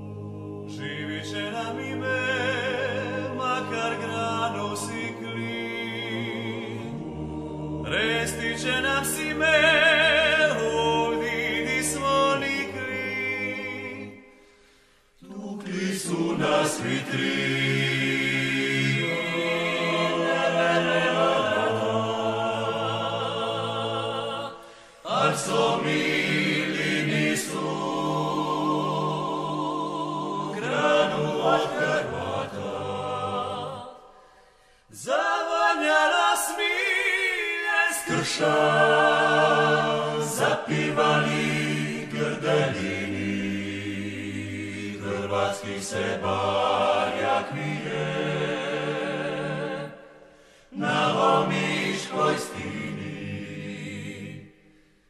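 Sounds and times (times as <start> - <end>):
group singing a cappella: 0.0 - 55.0.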